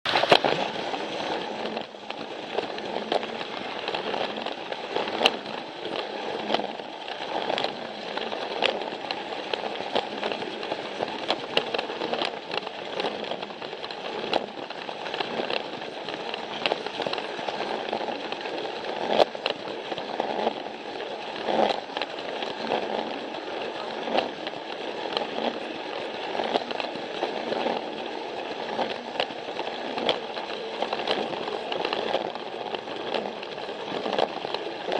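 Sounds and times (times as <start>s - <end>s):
clicks over track joints: 0.1s - 34.9s
toy train rattling whir: 1.3s - 34.9s.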